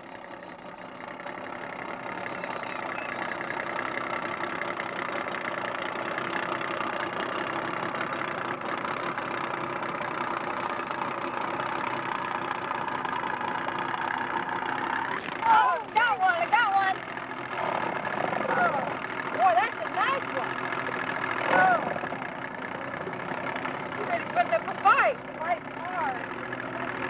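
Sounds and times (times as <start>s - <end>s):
boat motor running: 0.0s - 27.0s.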